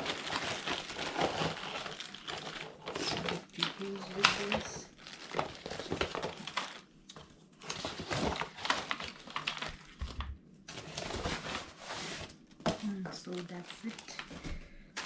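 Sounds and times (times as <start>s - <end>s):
packaging rustle: 0.0s - 15.0s.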